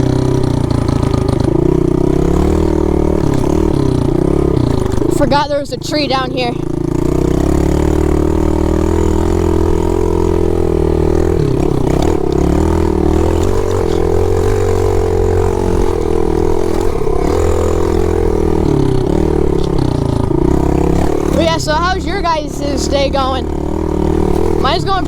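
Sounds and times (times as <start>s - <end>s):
motorbike engine running: 0.0s - 25.0s.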